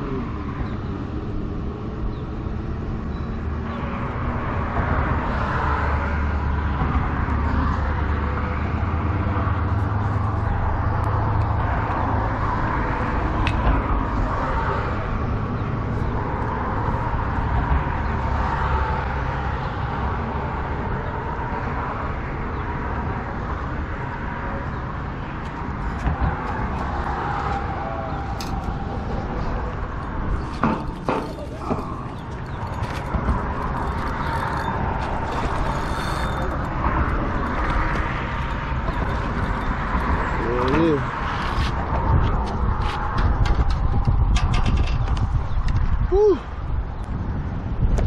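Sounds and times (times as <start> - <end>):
road traffic rumble: 0.0 - 48.0.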